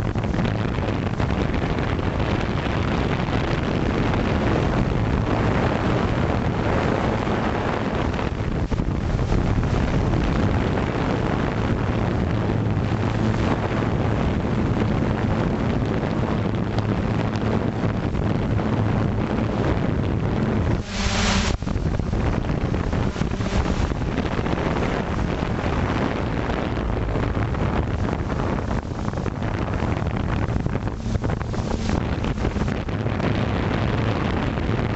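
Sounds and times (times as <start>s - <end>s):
low hum of drone motors: 0.0s - 34.9s
wind rushing over microphone: 0.0s - 34.9s.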